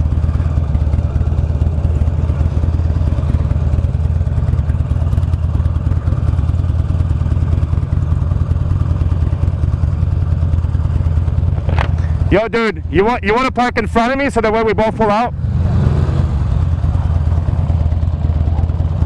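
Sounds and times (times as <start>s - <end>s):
motorcycle engine idling: 0.0s - 15.5s, 16.3s - 19.0s.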